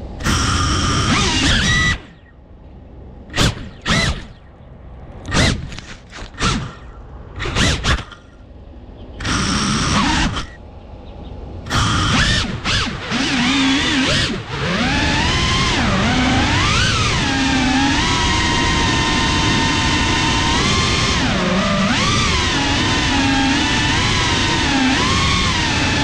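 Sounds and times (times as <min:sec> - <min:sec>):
drone motors blipping and whining: 0:00.0 - 0:02.4, 0:03.3 - 0:04.6, 0:05.2 - 0:08.5, 0:09.2 - 0:10.6, 0:11.6 - 0:26.0.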